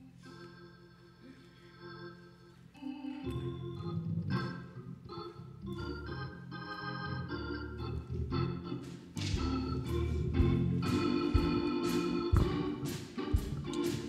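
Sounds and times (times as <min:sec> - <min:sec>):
organ playing held chords: 0:00.0 - 0:14.0.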